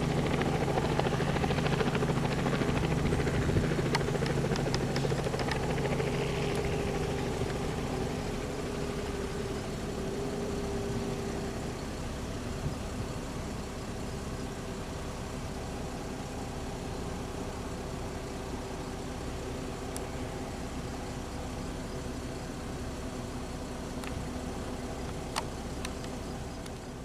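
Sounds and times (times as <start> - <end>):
helicopter engine and rotor hum: 0.0 - 27.0.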